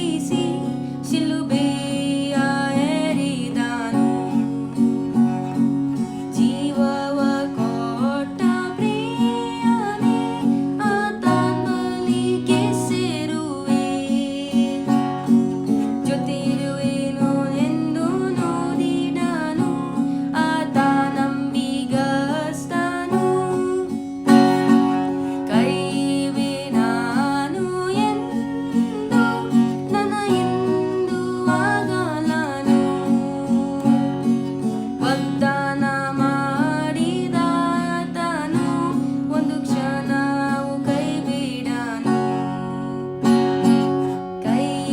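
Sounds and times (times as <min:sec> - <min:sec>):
woman singing worship song: 0:00.0 - 0:05.6, 0:06.2 - 0:44.9
strummed acoustic guitar: 0:00.0 - 0:44.9.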